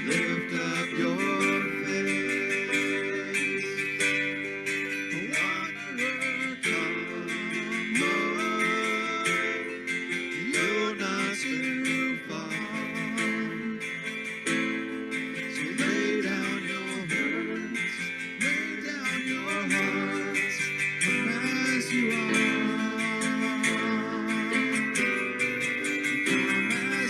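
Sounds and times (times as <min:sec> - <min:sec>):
acoustic guitar strumming: 0:00.0 - 0:27.0
person singing: 0:00.0 - 0:27.0.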